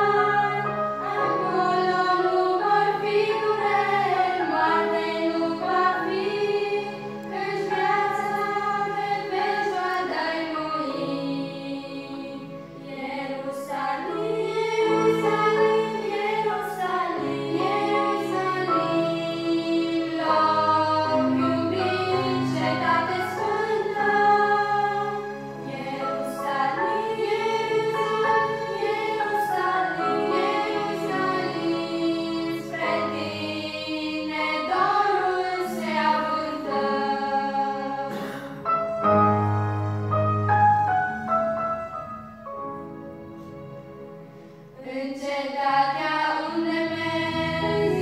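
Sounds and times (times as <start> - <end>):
female group singing a hymn: 0.0 - 38.6, 44.8 - 48.0.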